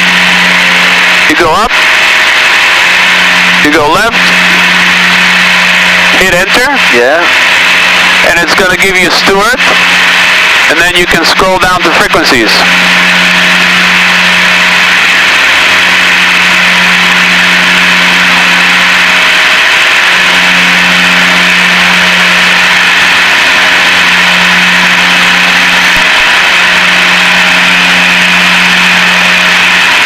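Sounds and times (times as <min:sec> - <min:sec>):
aircraft engines droning in cabin: 0:00.0 - 0:30.0.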